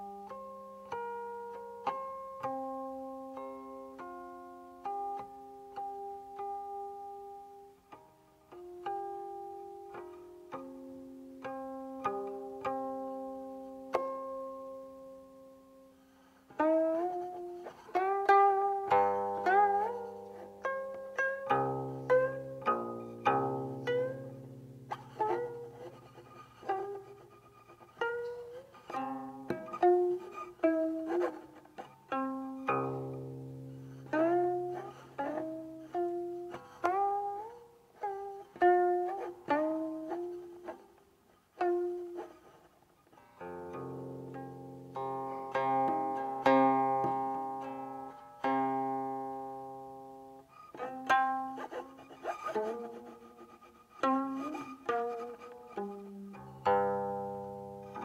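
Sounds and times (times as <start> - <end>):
plucked zither notes bending: 0.0 - 15.6, 16.5 - 41.0, 41.6 - 58.0.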